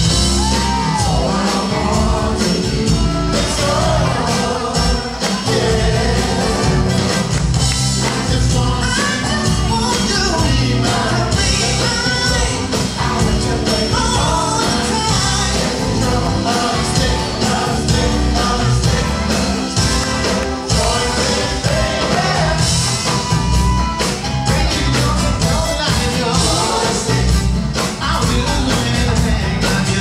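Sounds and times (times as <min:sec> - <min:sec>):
live funk band playing: 0:00.0 - 0:30.0
several people singing: 0:00.4 - 0:30.0.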